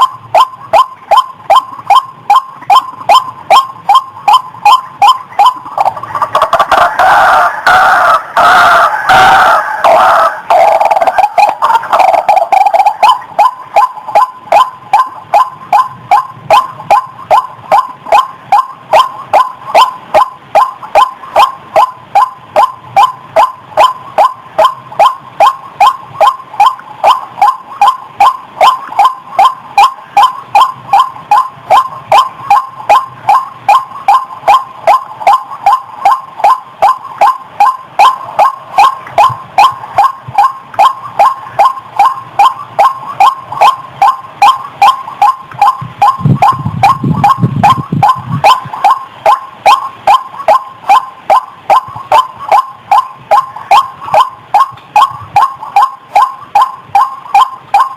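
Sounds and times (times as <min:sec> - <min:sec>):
waterhen calling: 0:00.0 - 0:57.9.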